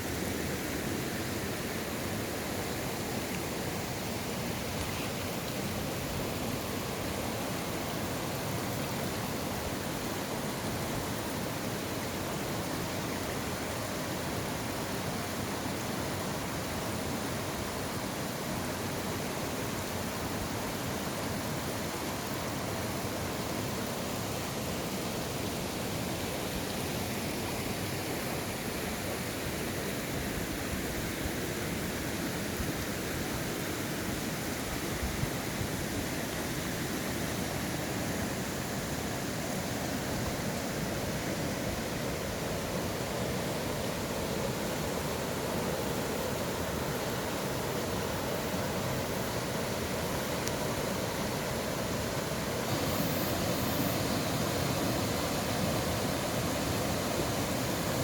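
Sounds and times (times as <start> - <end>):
stream rushing: 0.0 - 58.0.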